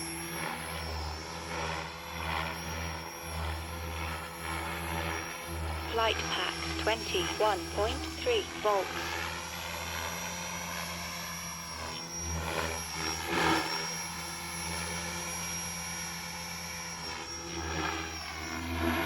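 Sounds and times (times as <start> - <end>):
electric model helicopter whine: 0.0 - 5.9, 9.1 - 19.0.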